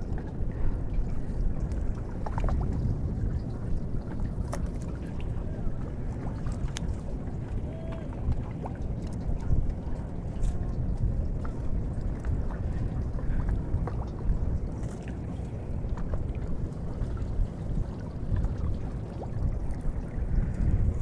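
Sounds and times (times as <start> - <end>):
boat low rumble: 0.0 - 21.0.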